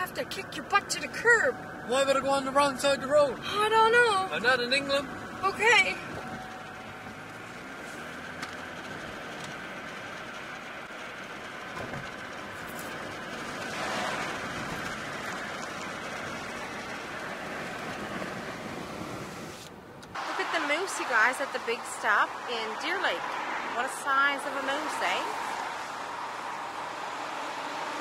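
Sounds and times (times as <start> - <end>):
road and tyre noise: 0.0 - 28.0.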